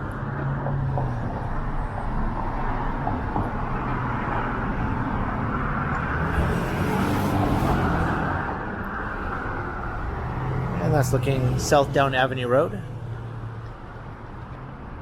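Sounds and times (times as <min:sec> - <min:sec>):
cars passing on busy street: 0:00.0 - 0:15.0.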